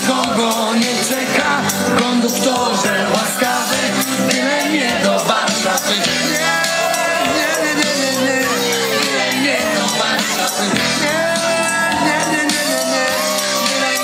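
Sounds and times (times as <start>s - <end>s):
upbeat party music with singing: 0.0s - 14.0s.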